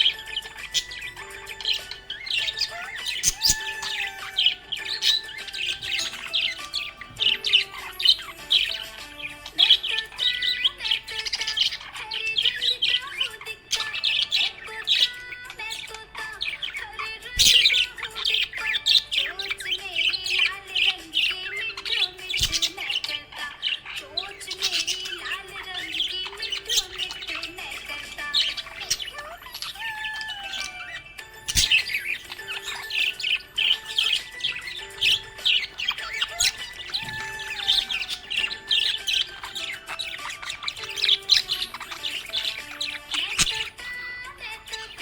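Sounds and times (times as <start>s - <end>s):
background music with held notes: 0.0s - 45.0s
budgerigar chirping: 0.0s - 45.0s.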